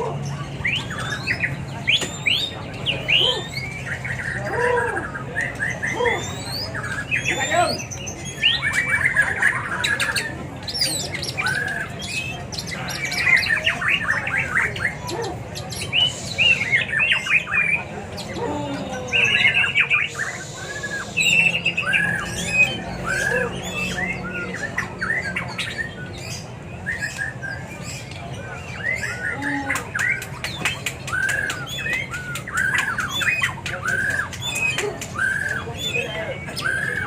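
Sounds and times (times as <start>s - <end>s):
caged birds chirping and squawking: 0.0s - 37.0s.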